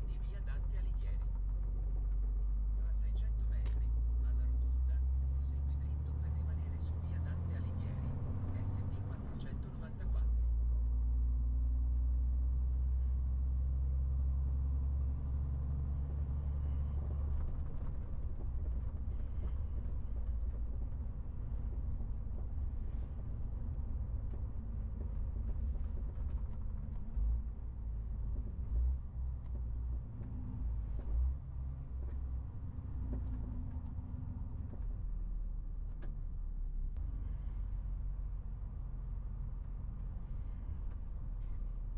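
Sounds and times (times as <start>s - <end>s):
truck diesel engine droning: 0.0s - 41.9s.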